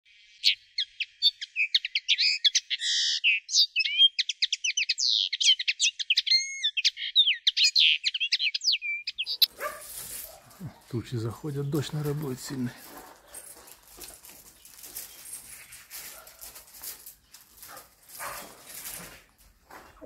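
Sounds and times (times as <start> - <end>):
songbird singing: 0.1 - 16.4.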